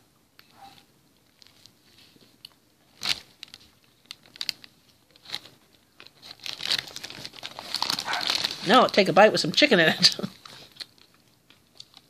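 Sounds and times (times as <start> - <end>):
paper wrapper crinkling: 0.6 - 12.0.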